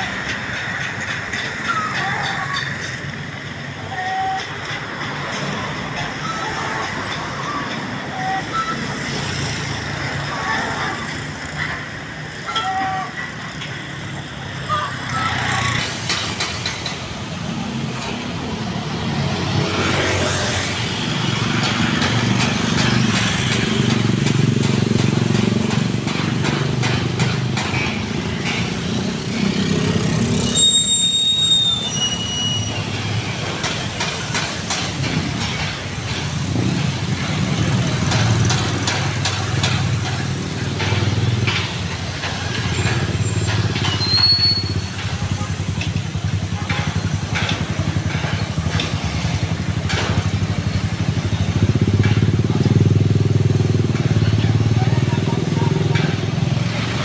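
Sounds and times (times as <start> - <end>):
scattered clicks and knocks: 0.0 - 30.4, 32.6 - 57.0
street traffic driving past: 0.0 - 57.0.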